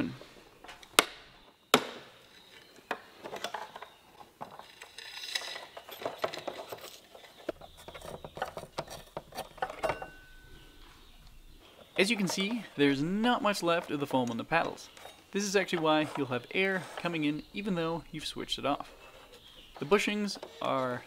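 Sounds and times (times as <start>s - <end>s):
plastic and metal parts scraping: 2.3s - 21.0s.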